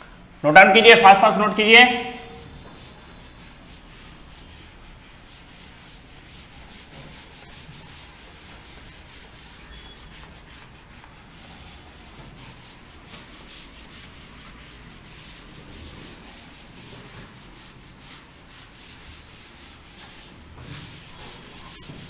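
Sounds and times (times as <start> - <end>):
duster scrubbing chalkboard: 0.0 - 22.0.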